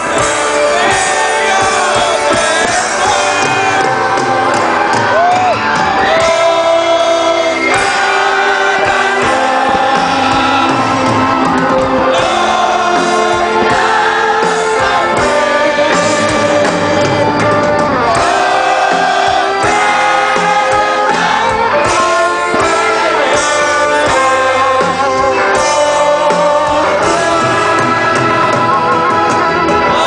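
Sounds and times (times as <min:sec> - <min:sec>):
live band with singer: 0:00.0 - 0:30.0.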